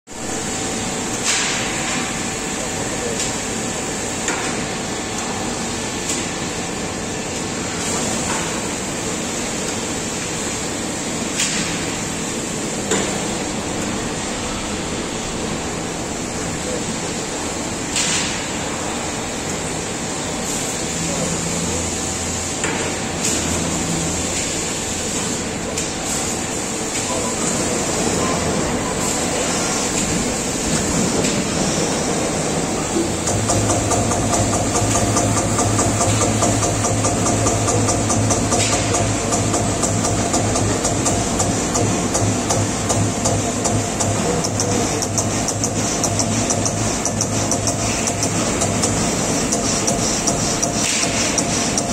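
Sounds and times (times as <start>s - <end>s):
punching machine hiss and hum: 0.1s - 51.9s.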